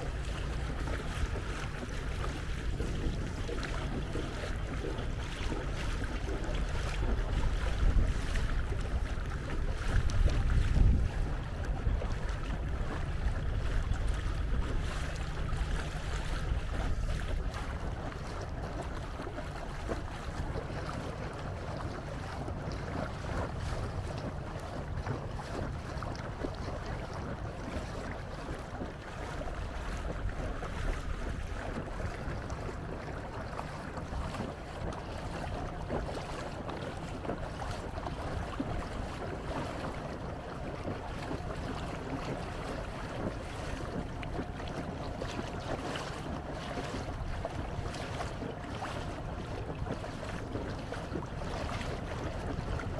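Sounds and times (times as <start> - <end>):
water noise from canoe: 0.0 - 52.9
wind rumble on microphone: 0.0 - 52.9.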